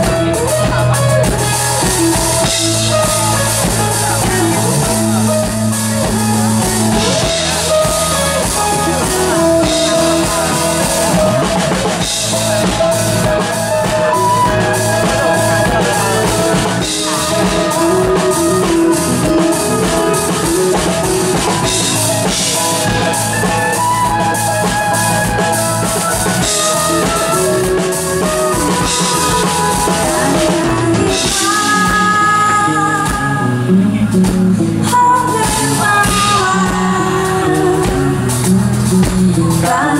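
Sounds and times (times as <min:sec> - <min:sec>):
drum kit beat: 0:00.0 - 0:39.9
live pop band playing: 0:00.0 - 0:39.9.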